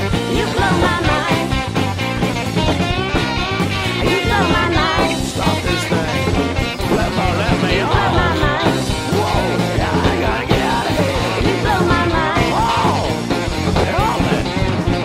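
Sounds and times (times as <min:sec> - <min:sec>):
bass guitar: 0:00.0 - 0:15.0
drums: 0:00.0 - 0:15.0
lead electric guitar bending notes: 0:00.1 - 0:15.0.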